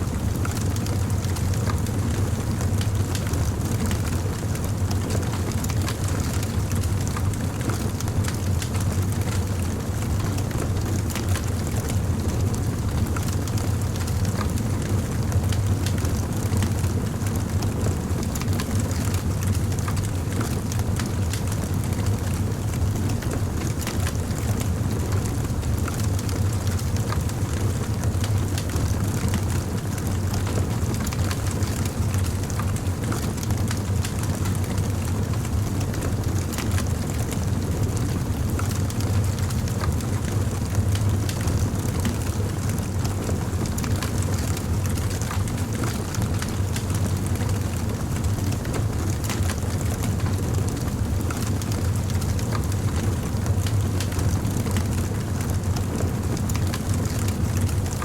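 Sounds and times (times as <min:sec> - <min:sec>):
fire crackling and popping: 0:00.1 - 0:02.2, 0:02.8 - 0:58.0.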